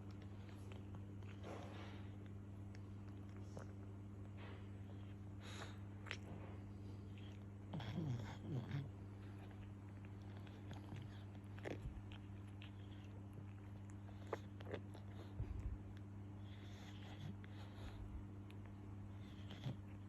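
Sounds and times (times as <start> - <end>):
low steady hum: 0.0 - 20.0
puppy mouth and nose noises: 0.0 - 20.0.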